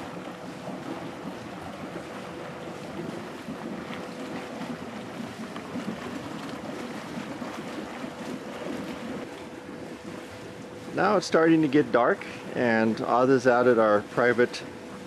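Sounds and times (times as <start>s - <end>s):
faint steady hum: 0.0s - 15.0s
water noise: 0.0s - 15.0s
wind: 0.0s - 15.0s.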